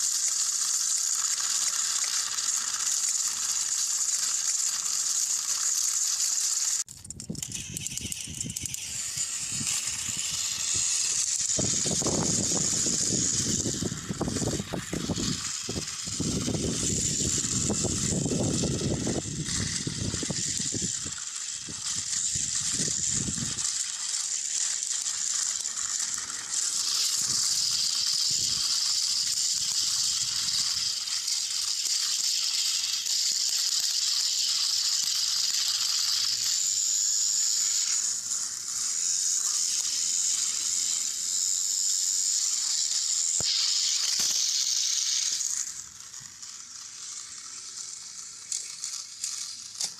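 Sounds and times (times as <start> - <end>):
toy train motors whirring: 0.0 - 49.9.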